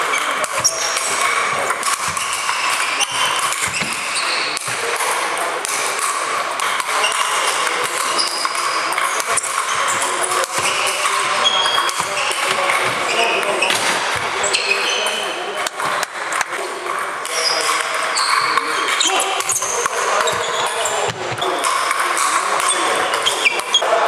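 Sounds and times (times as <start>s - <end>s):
echoing hubbub of sports hall: 0.0s - 24.0s.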